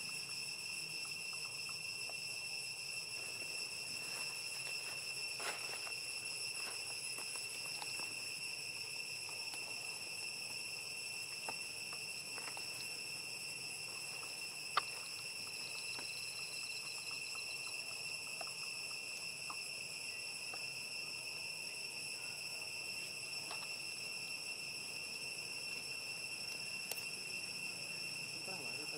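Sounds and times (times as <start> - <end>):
high-pitched insect drone: 0.0 - 28.9.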